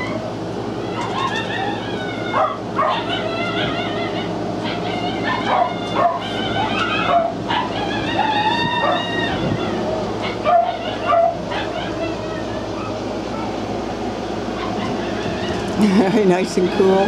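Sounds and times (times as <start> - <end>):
dog whining and yipping: 0.0 - 0.2, 0.8 - 15.8.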